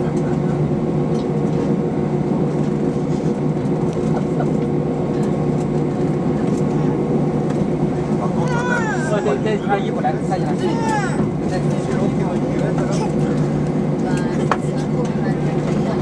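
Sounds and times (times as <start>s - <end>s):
aircraft cabin hum: 0.0s - 16.0s.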